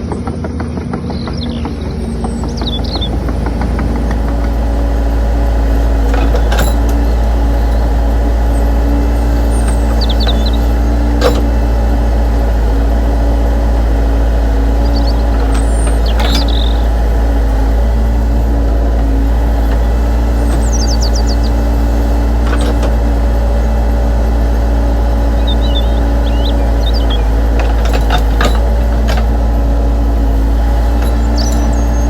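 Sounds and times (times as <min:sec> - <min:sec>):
birds chirping: 0:00.0 - 0:32.0
toy excavator machine drone: 0:00.3 - 0:32.0.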